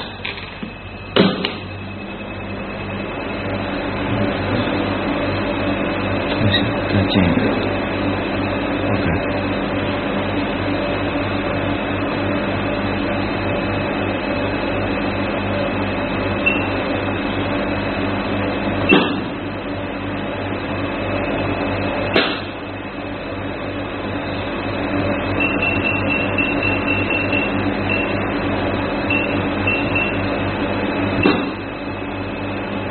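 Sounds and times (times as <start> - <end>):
machine humming: 0.0 - 32.9.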